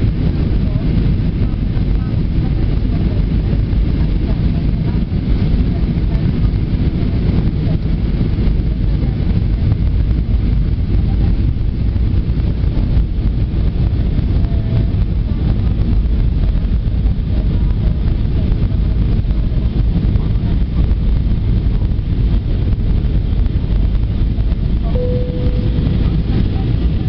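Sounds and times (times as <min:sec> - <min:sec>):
jet engine cabin rumble: 0:00.0 - 0:27.0.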